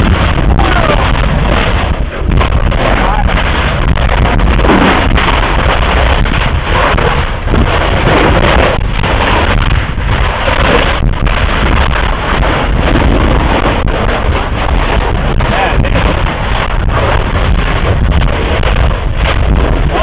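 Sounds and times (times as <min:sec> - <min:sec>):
lava blasts roaring: 0:00.0 - 0:20.0
wind buffeting microphone: 0:00.0 - 0:20.0.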